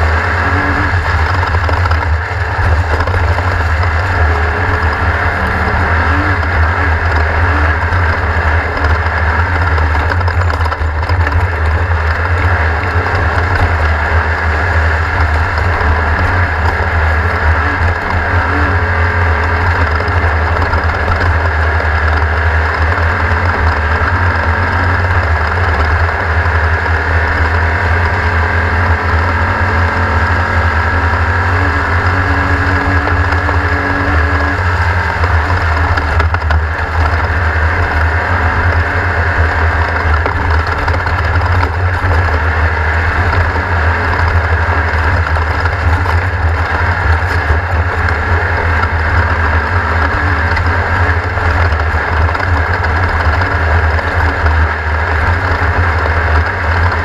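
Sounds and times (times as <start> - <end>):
race car engine droning: 0.0 - 57.0.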